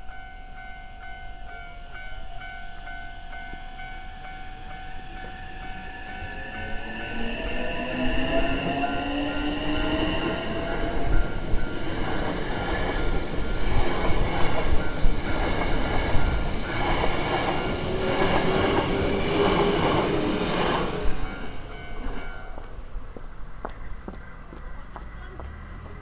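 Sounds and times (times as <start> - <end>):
crossing warning bell ringing: 0.0 - 23.0.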